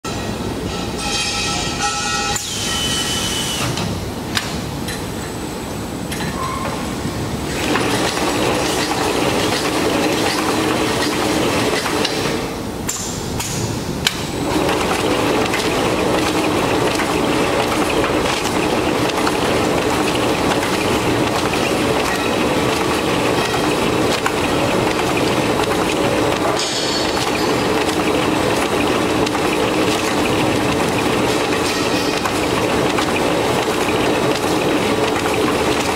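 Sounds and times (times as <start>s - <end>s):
wrapping machine running: 7.1s - 35.9s.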